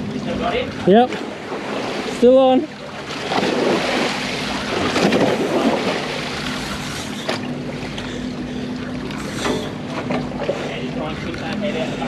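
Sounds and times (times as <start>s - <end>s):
low hum from boat: 0.0s - 12.0s
water washing against boat: 0.0s - 12.0s.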